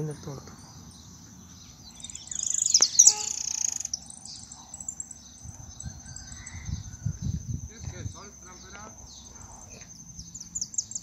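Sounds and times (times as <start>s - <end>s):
finch twittering song: 0.0s - 11.0s.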